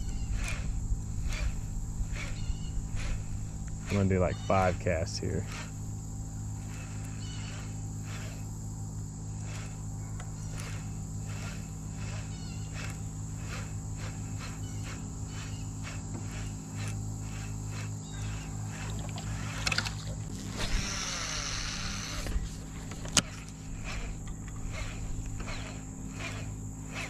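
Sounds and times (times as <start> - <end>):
insects chirping: 0.0 - 27.0
low hum: 0.0 - 27.0.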